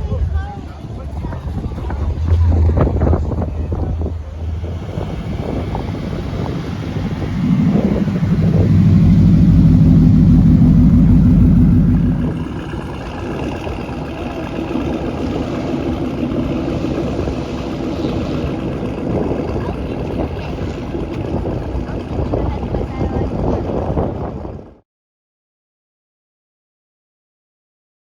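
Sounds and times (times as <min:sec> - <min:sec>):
car engine running: 0:00.0 - 0:24.7.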